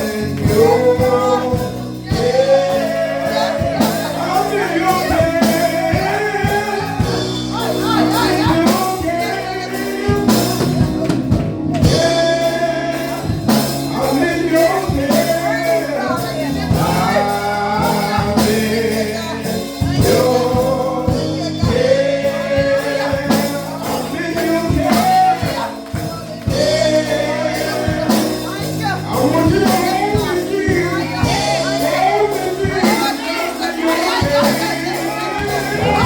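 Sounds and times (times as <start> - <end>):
person singing: 0.0 - 25.8, 26.5 - 36.0
bass: 0.0 - 36.0
drums: 0.0 - 36.0
organ or keyboard: 0.0 - 36.0.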